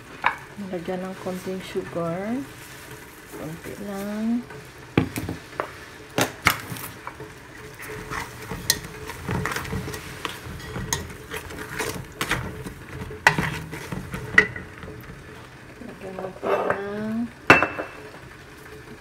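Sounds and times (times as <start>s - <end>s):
food sizzling: 0.0s - 19.0s
wooden spatula scraping metal pot: 0.2s - 17.3s.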